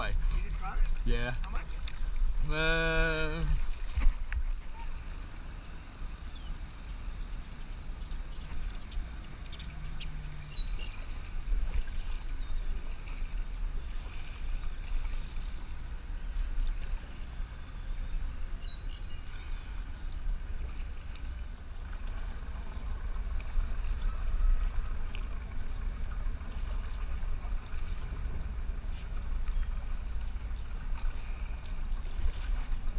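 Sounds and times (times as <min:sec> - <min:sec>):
paddle dipping and water splashing: 0:00.0 - 0:32.9
wind rumble on microphone: 0:00.0 - 0:32.9.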